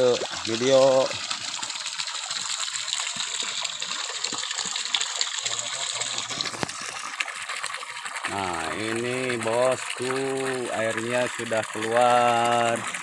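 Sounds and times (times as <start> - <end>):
water pouring into a pool: 0.0 - 13.0.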